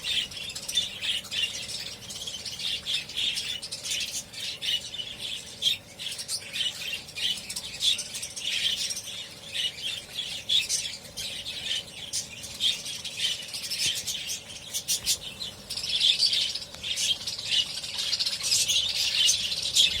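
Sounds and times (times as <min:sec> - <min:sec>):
budgerigars chattering and chirping: 0:00.0 - 0:20.0.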